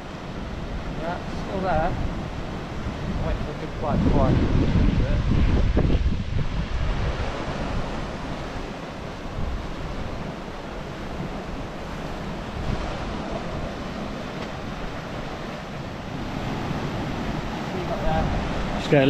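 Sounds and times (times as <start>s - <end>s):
waves washing against rocks: 0.0s - 19.0s
wind buffeting microphone: 0.0s - 19.0s.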